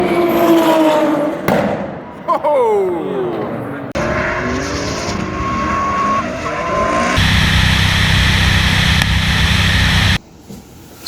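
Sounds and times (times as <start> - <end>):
racing car engine: 0.0 - 2.2, 3.0 - 10.2.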